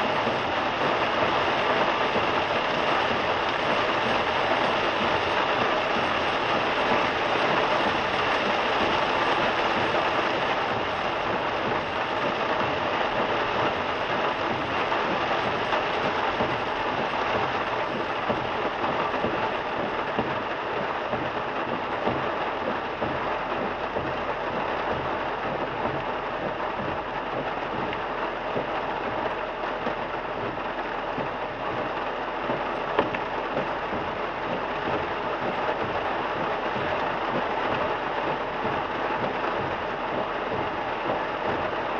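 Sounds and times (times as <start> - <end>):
heavy rain on a car: 0.0 - 41.9
wet road noise: 0.0 - 41.9.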